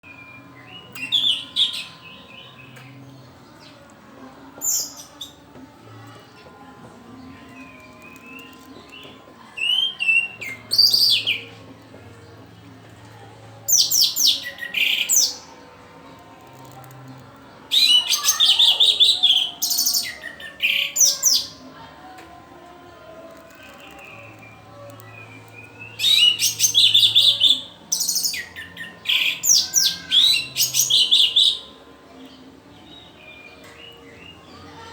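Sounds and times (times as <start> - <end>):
thrush singing: 0.0 - 34.9.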